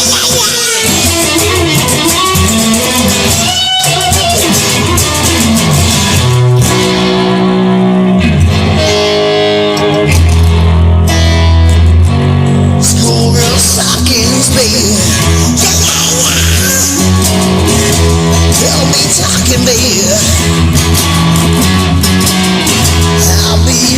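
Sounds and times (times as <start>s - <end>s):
bass guitar: 0.0s - 23.9s
electric guitar: 0.0s - 23.9s.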